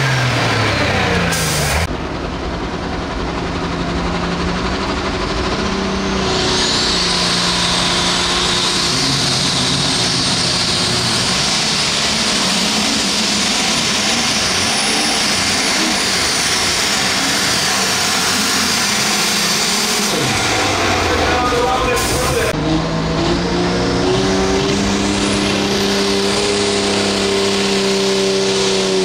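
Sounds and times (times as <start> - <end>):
high turbo whine: 0.0 - 29.0
tractor diesel engine at full throttle: 0.0 - 29.0.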